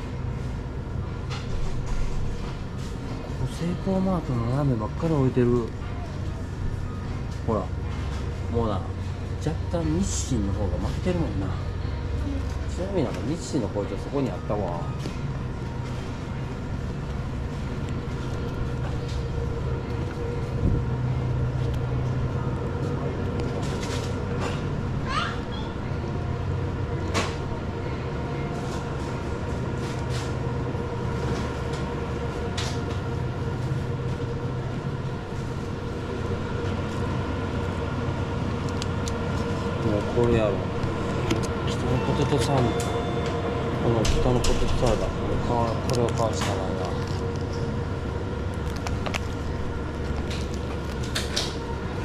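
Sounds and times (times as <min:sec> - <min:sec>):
electrical hum of refrigerators: 0:00.0 - 0:52.0.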